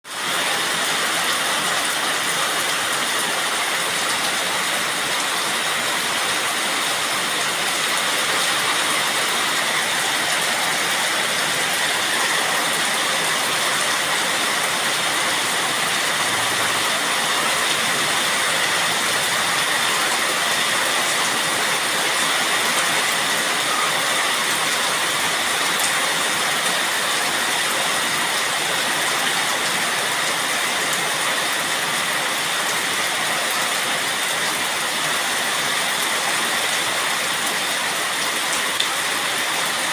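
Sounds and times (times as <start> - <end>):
rain falling: 0.1 - 39.9.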